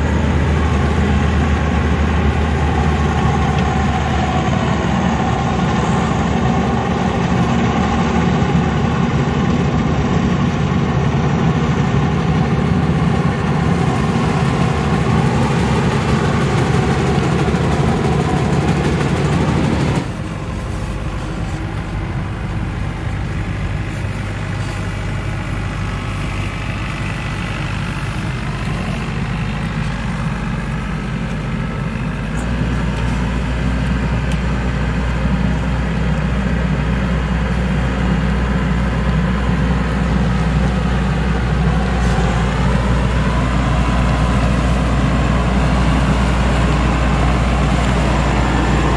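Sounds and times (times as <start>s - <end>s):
combine harvester running: 0.0s - 48.9s.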